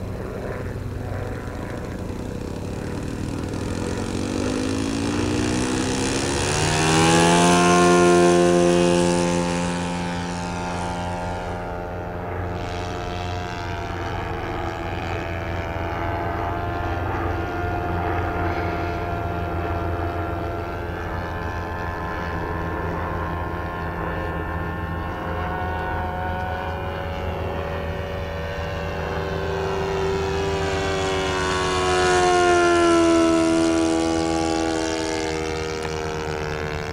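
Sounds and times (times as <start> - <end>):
model airplane engine droning: 0.0 - 36.9.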